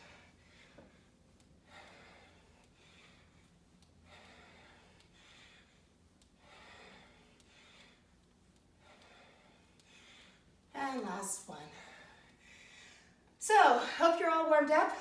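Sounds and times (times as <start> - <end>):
woman breathing heavily: 0.0 - 14.2.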